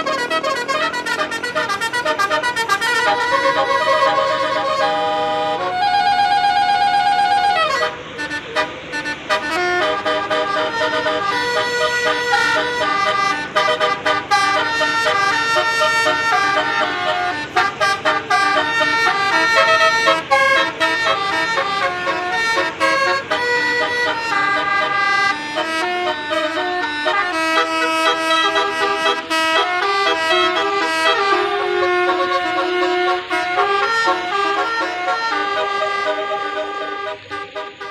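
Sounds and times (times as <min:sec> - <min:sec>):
bus multi-tone horn playing tunes: 0:00.0 - 0:37.9.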